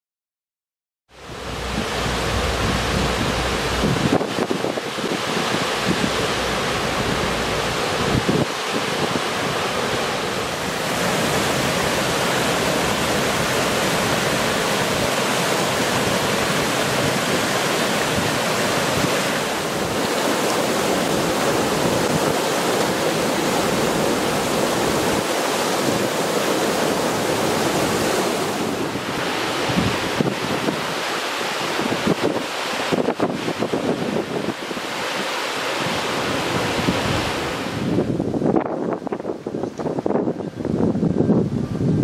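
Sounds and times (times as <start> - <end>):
river rapids roaring: 1.1 - 40.7.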